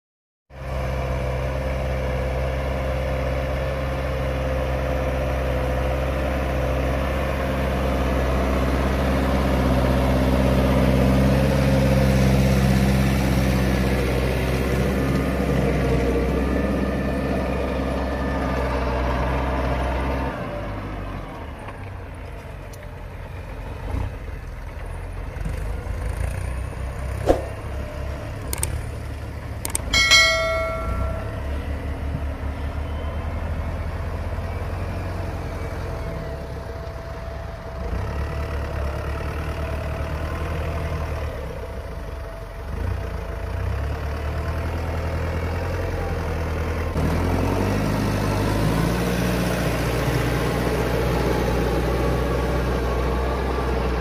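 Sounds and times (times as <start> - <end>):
tractor engine under load: 0.8 - 54.0.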